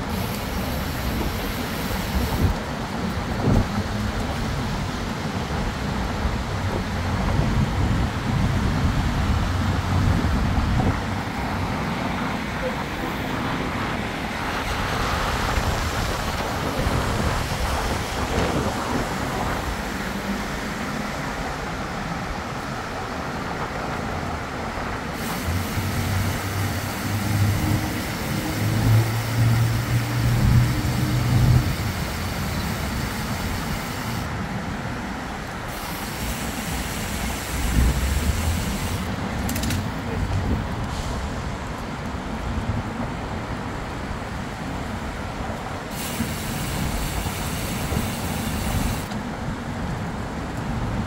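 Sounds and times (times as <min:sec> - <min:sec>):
city street traffic: 0:00.0 - 0:51.0
vehicle engine hum: 0:00.0 - 0:51.0.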